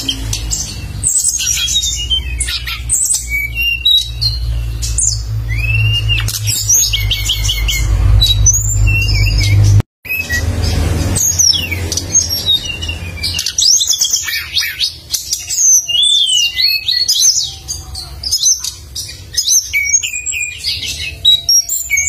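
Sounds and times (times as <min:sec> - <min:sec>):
songbird chirping and trilling: 0:00.0 - 0:22.0.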